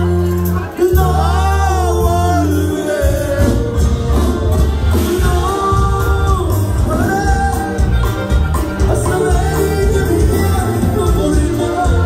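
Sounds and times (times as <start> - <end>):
band music with singing: 0.0 - 12.0
bouncing bass rhythm: 0.0 - 12.0.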